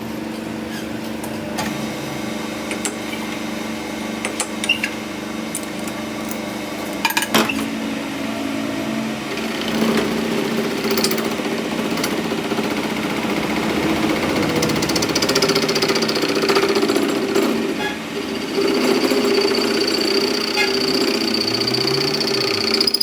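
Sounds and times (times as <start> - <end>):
power tool humming: 0.0 - 23.0.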